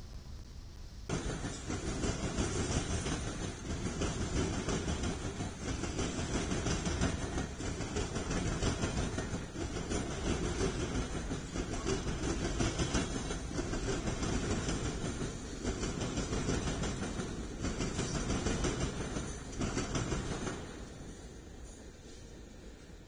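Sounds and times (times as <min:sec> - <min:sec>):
freight train wheels rattling: 0:01.1 - 0:23.0.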